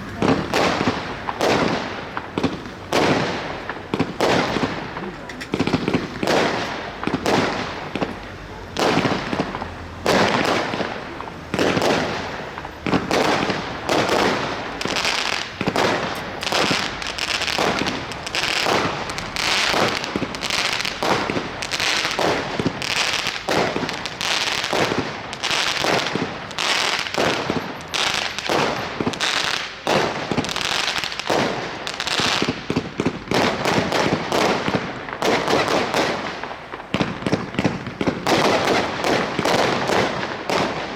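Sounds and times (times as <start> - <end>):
firework launches and bangs: 0.1 - 40.9.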